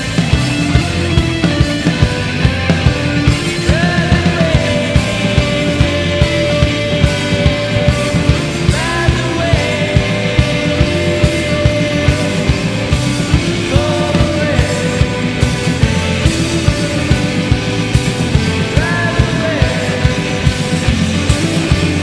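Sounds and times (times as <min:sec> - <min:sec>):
person singing: 0:00.0 - 0:17.6, 0:18.2 - 0:22.0
bass guitar: 0:00.0 - 0:22.0
drum kit beat: 0:00.0 - 0:22.0
electric guitars: 0:00.0 - 0:22.0.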